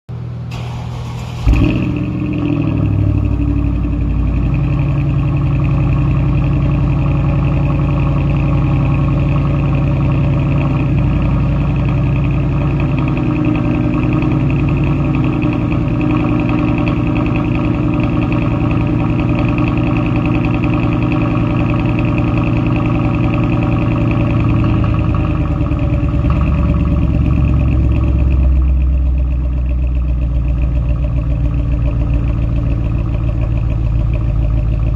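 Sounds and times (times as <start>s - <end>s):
car engine idling: 0.1s - 34.9s
car engine starting and revving: 0.5s - 34.9s.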